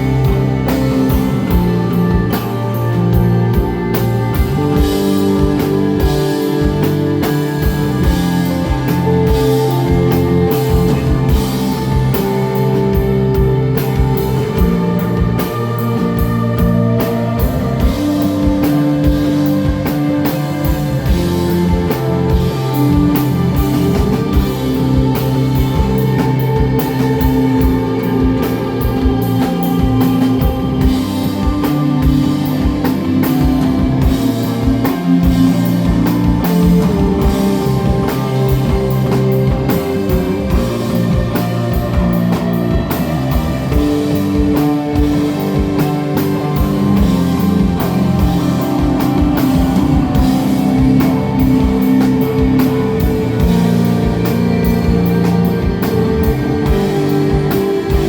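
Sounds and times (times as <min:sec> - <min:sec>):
bass guitar: 0:00.0 - 0:58.0
drum kit steady beat: 0:00.0 - 0:58.0
electric guitar: 0:00.0 - 0:58.0.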